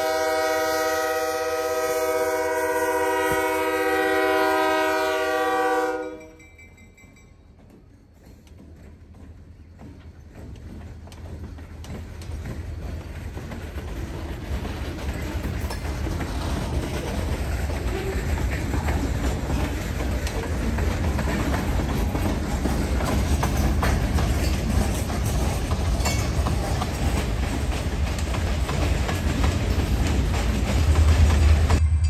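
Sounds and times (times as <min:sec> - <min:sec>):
train rumble: 0:00.0 - 0:32.0
wheels clacking over rail joints: 0:03.0 - 0:32.0.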